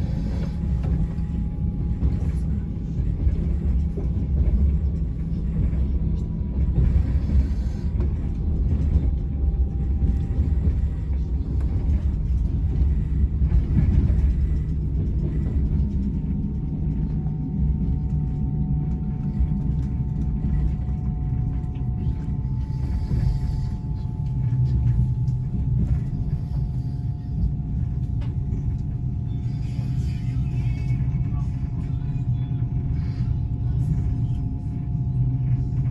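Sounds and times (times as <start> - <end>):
faint steady whine: 0.0 - 35.9
train rumble inside carriage: 0.0 - 35.9.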